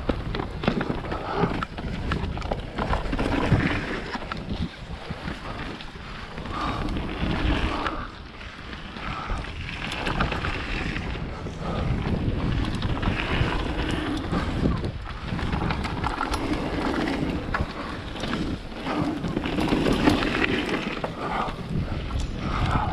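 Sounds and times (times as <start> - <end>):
bike knocks and rattles: 0.0 - 8.1, 8.8 - 22.9
tyres rumbling on dirt: 0.0 - 22.9
wind buffeting microphone: 0.0 - 22.9.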